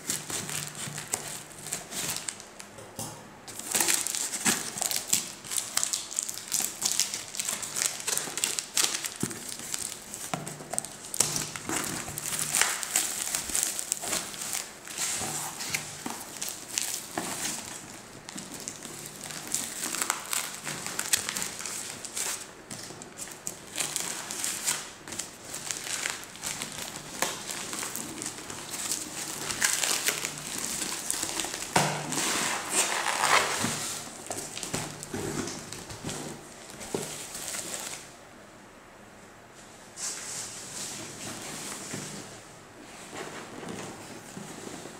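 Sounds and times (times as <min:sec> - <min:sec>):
cardboard box and bubble wrap crinkling: 0:00.0 - 0:02.4, 0:03.5 - 0:38.1.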